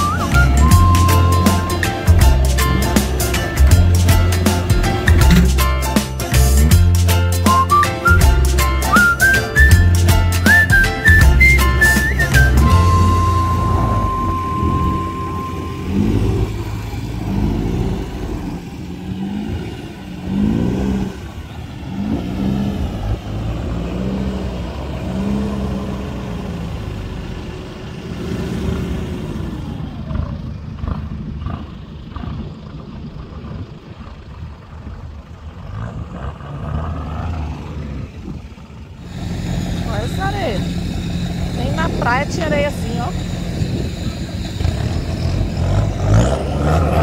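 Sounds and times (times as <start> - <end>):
pickup engine revving: 0.0 - 47.0.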